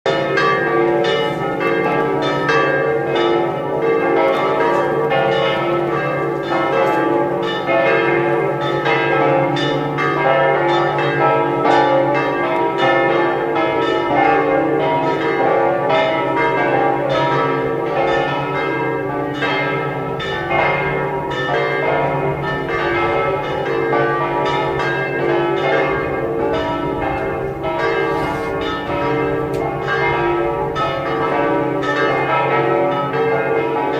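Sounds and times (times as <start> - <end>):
church bells pealing: 0.1 - 33.9.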